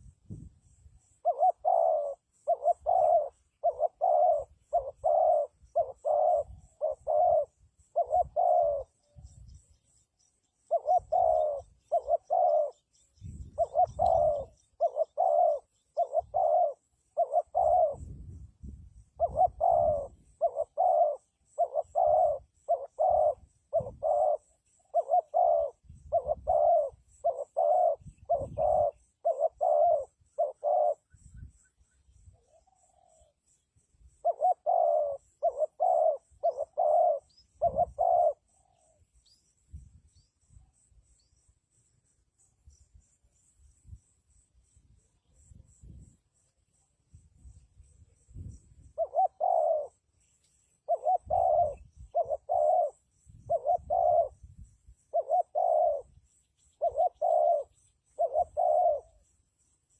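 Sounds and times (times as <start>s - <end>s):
dove cooing: 1.0s - 18.4s, 19.0s - 33.5s, 34.1s - 39.4s, 47.9s - 59.7s.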